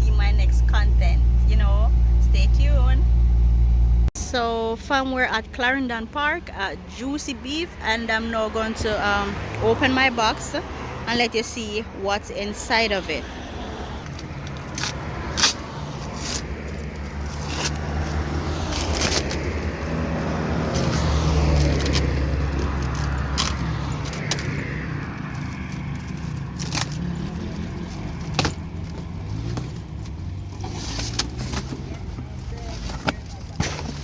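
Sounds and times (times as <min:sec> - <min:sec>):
vehicle engine hum: 0:00.0 - 0:34.0.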